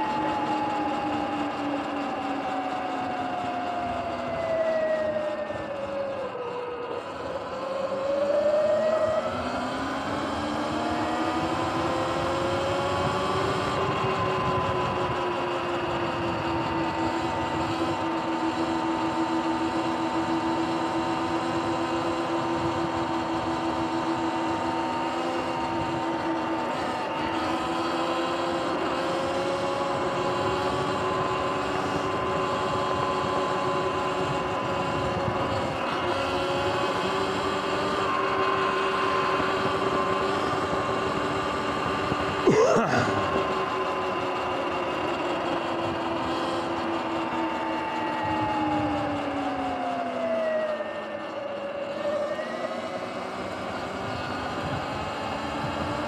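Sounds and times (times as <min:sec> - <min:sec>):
electric motorbike motor whining: 0:00.0 - 0:56.0
road and air noise: 0:00.0 - 0:56.0.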